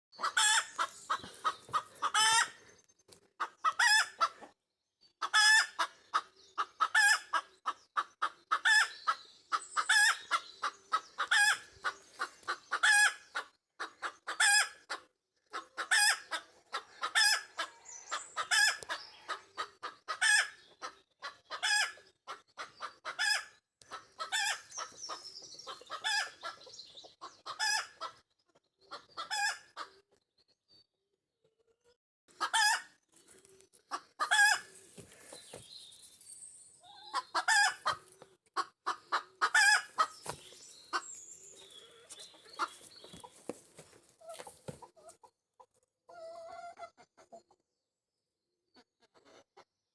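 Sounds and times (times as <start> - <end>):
hen clucking and squawking: 0.2 - 2.6, 3.4 - 4.5, 5.2 - 28.2, 28.8 - 30.0, 32.3 - 35.8, 36.8 - 47.5.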